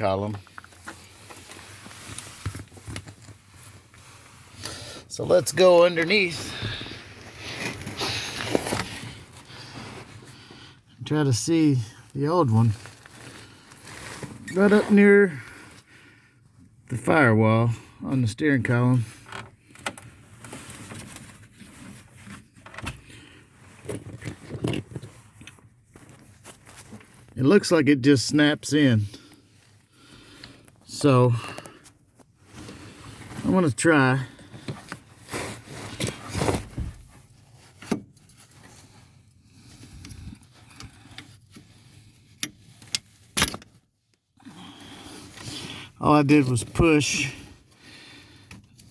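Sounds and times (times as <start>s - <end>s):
scraping and rustling under truck: 0.1s - 10.8s, 11.7s - 15.9s, 19.0s - 27.4s, 28.8s - 48.9s.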